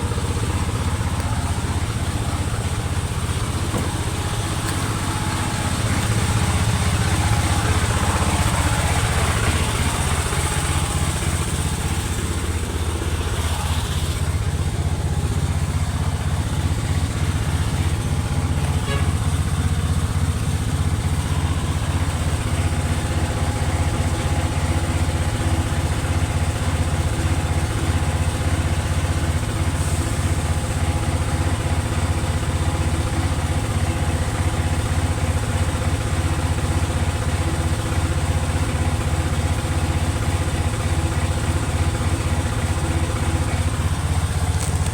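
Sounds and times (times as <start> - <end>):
diesel truck engine idling: 0.0 - 44.9.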